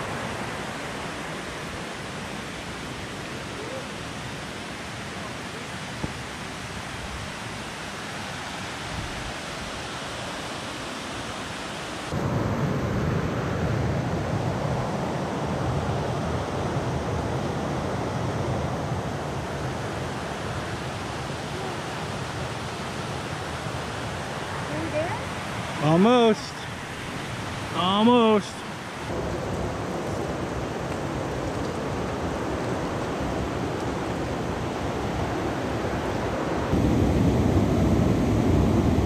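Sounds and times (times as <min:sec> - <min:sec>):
waterfall rushing: 0:00.0 - 0:13.6, 0:14.8 - 0:39.0.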